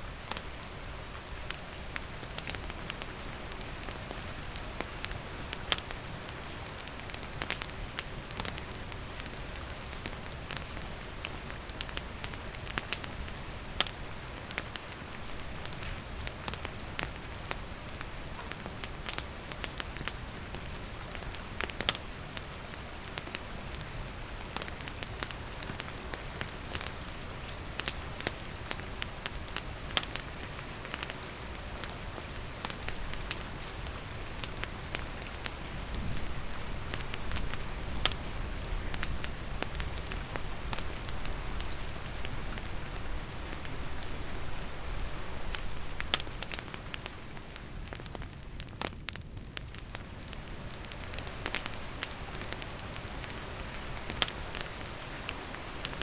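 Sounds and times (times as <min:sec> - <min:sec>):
campfire crackling: 0:00.0 - 0:56.0
steady rain falling: 0:00.0 - 0:56.0.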